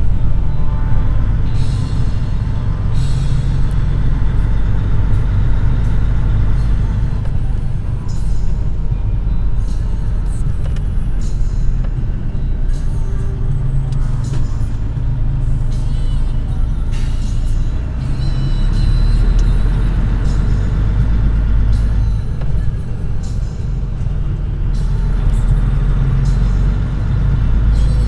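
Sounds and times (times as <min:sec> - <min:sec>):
rattling noises: 0:00.0 - 0:28.0
truck diesel engine rumble: 0:00.0 - 0:28.0.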